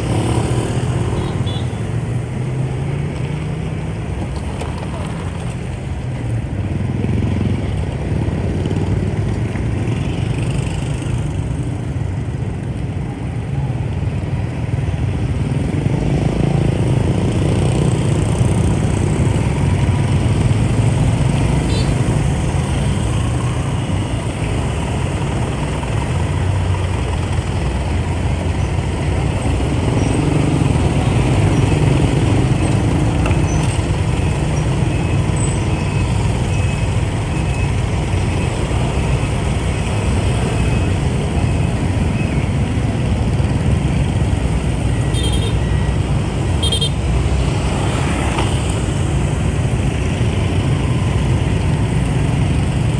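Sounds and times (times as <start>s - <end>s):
dense traffic hum: 0.0s - 52.9s.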